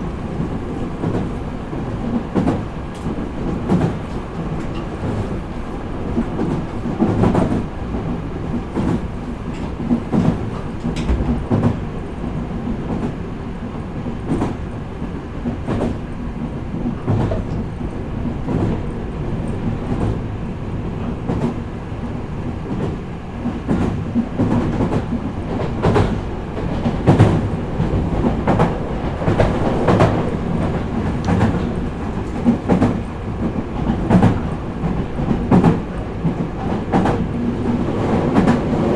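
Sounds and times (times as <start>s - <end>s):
train running gear rumble: 0.0s - 38.9s.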